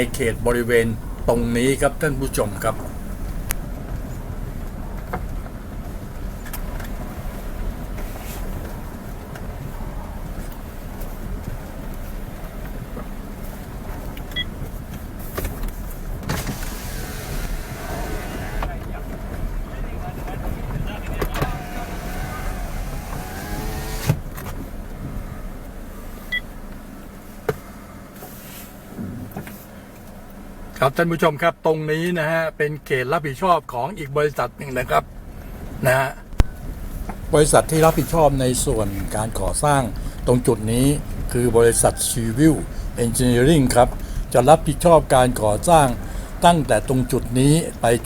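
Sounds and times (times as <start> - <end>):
vehicle engine: 0.0 - 31.0, 35.0 - 48.0
road rumble: 0.0 - 48.0.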